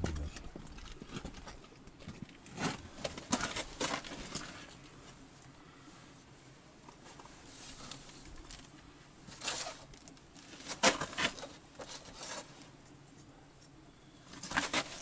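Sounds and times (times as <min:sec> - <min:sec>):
rustling scraping handling noises: 0:00.7 - 0:05.2, 0:06.8 - 0:15.0.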